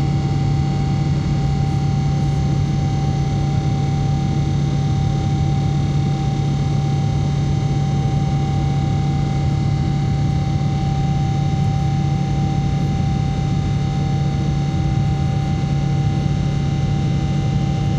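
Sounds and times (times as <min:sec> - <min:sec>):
jet engine and airflow drone: 0:00.0 - 0:17.9
thin steady whine: 0:00.0 - 0:17.9.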